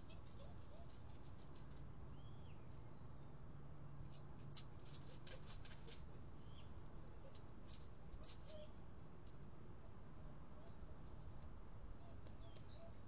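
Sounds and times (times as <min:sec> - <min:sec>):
faint low hum: 0:00.0 - 0:13.0
small birds chipping: 0:00.0 - 0:13.0.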